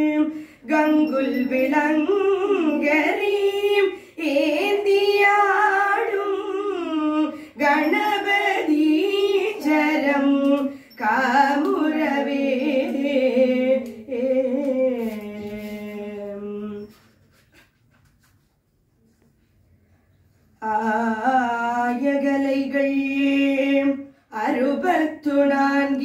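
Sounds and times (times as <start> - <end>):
woman singing a hymn: 0.0 - 17.1, 20.6 - 26.0.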